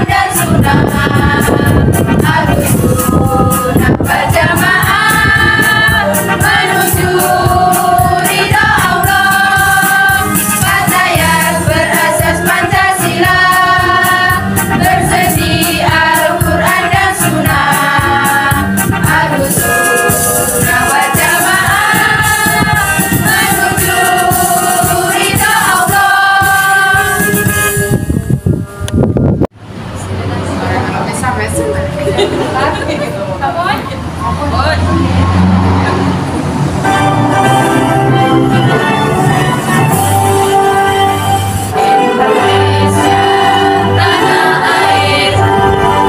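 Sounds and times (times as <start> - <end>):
women's choir singing: 0.0 - 27.5, 34.8 - 46.0.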